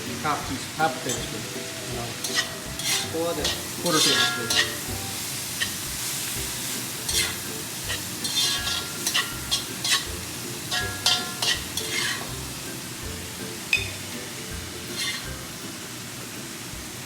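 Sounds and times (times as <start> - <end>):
spatula scraping and clinking on pan: 0.0 - 15.8
cabbage sizzling in a pan: 0.0 - 17.0.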